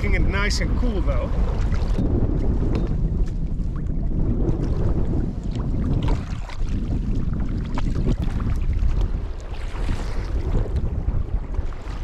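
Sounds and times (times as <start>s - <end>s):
wind buffeting microphone: 0.0s - 12.0s
paddle splashing water: 0.8s - 12.0s.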